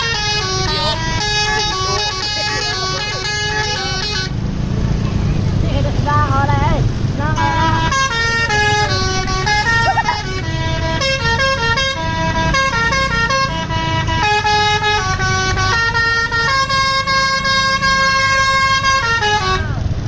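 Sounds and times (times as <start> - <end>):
musical bus horn melody: 0.0 - 4.4, 7.3 - 19.8
bus engine rumble: 0.0 - 20.0.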